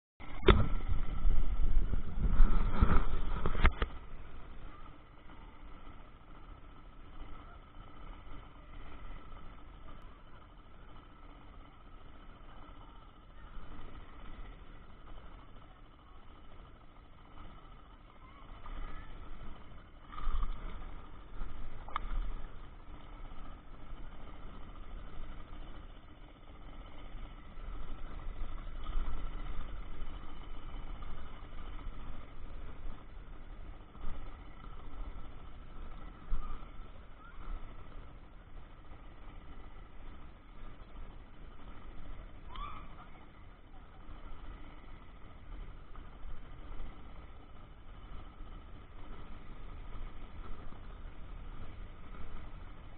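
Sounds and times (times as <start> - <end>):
steady mechanical hum: 0.2 - 52.9.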